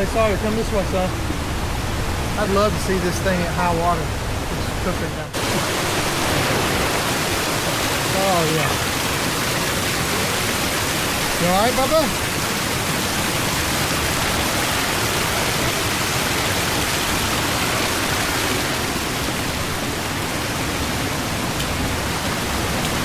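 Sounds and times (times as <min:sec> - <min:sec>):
creek water flowing over rocks: 0:00.0 - 0:23.0
waterfall rushing: 0:00.0 - 0:23.0.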